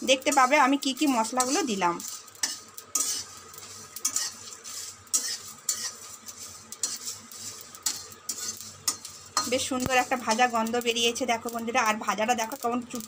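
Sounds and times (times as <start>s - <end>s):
metal spatula scraping metal pan: 0.0s - 10.8s
seeds crackling faintly: 0.0s - 13.0s.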